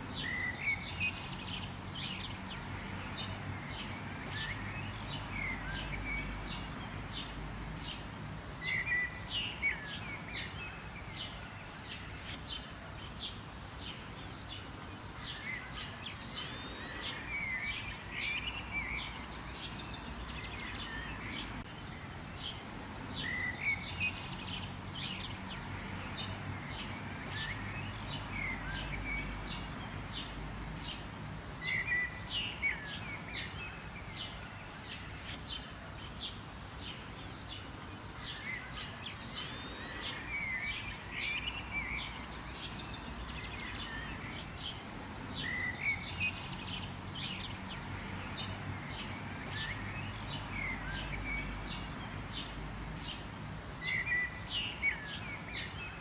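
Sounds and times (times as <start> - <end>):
low background noise: 0.0 - 56.0
small birds chirping: 0.0 - 56.0.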